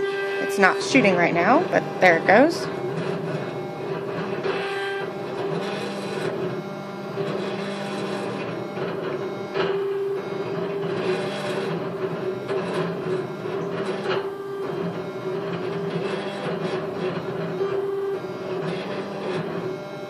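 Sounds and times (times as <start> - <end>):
stepper motor whine: 0.0 - 20.0.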